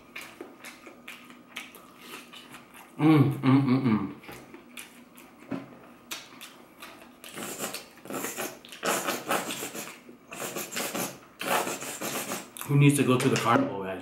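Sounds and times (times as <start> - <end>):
person chewing: 0.0 - 12.7.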